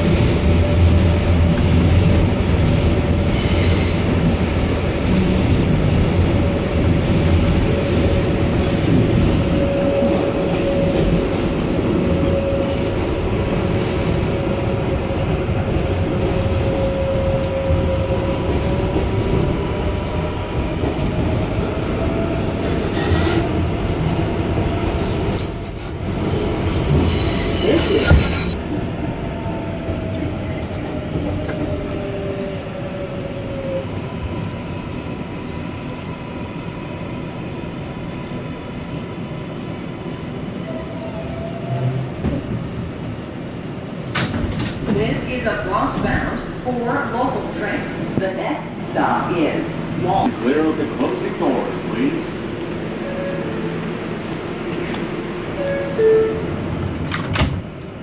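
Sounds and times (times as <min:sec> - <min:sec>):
subway wheels rumbling on rail: 0:00.0 - 0:58.0.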